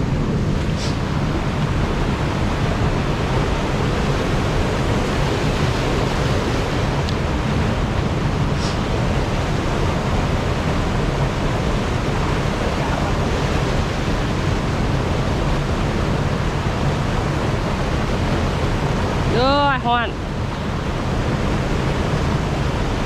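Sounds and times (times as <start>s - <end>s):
water rushing over weir: 0.0s - 23.0s.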